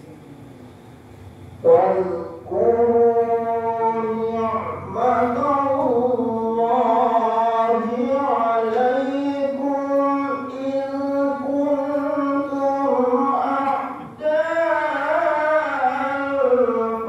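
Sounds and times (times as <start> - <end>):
man reciting melodiously: 1.6 - 17.0.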